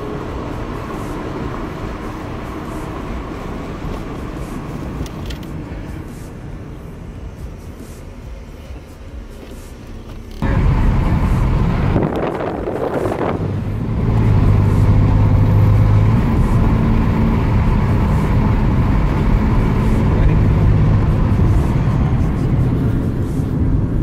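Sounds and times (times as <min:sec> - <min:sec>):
car engine drone from inside cabin: 0:00.0 - 0:24.0.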